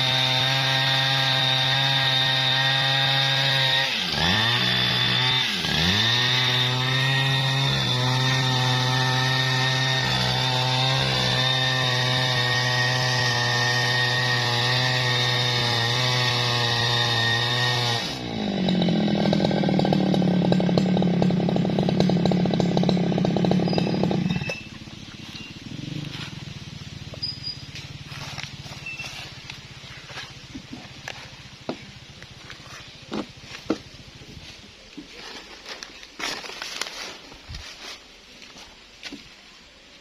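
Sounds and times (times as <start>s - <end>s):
chainsaw cutting through log: 0.0s - 34.4s.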